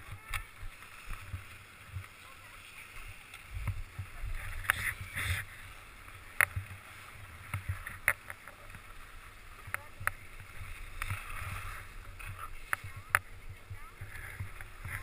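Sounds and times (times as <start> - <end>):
ski clicks over ruts: 0.0 - 15.0
skis scraping over snow: 0.0 - 15.0.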